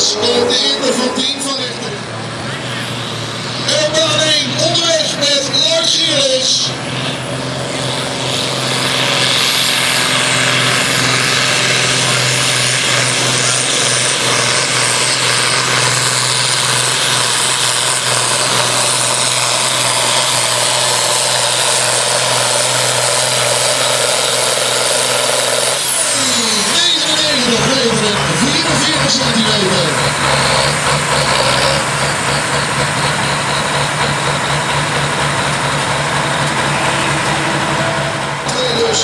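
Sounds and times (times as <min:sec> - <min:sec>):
tractor engine running hard: 0:00.0 - 0:39.0.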